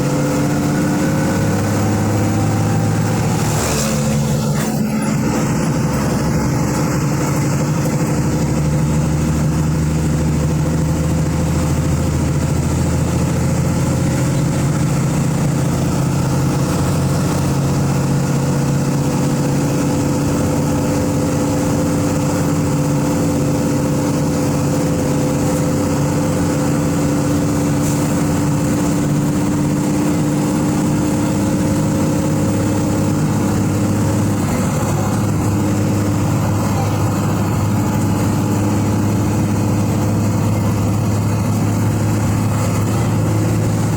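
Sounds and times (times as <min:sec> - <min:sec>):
diesel bus engine running: 0:00.0 - 0:43.9.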